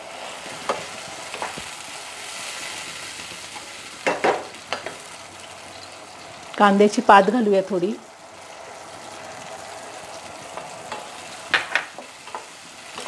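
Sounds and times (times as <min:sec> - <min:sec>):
sauce sizzling in a wok: 0:00.0 - 0:13.0.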